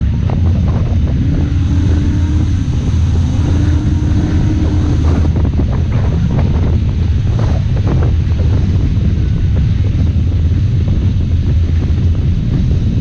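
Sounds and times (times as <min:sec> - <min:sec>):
off-road vehicle engine running: 0:00.0 - 0:13.0
wind buffeting microphone: 0:00.0 - 0:13.0.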